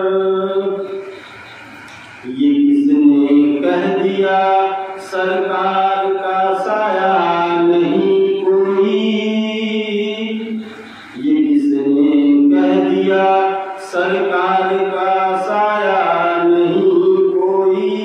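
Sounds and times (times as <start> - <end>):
man chanting religious recitation: 0.0 - 1.3, 2.2 - 18.0.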